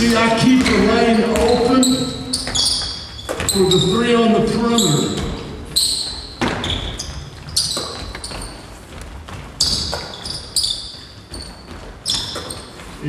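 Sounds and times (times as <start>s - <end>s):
basketball bouncing on wooden floor: 0.0s - 12.9s
sneaker squeaks: 0.0s - 13.0s.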